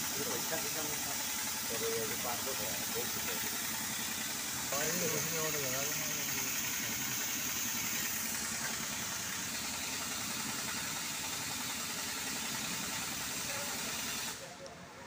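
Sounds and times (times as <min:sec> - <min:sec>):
motor running with rapid pulsing: 0:00.0 - 0:15.0.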